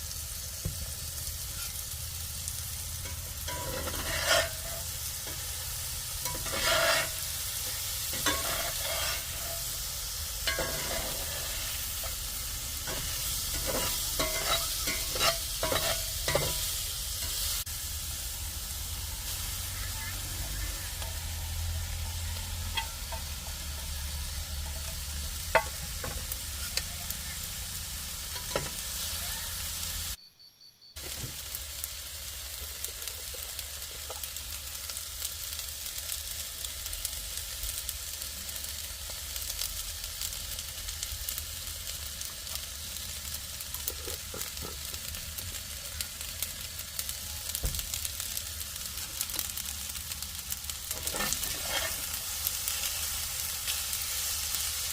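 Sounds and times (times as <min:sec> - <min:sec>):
food sizzling in a skillet: 0:00.0 - 0:30.2, 0:31.0 - 0:54.9.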